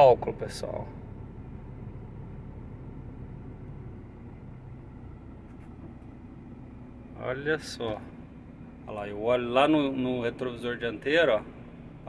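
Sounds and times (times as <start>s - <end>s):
truck diesel engine at low revs: 0.0s - 12.0s.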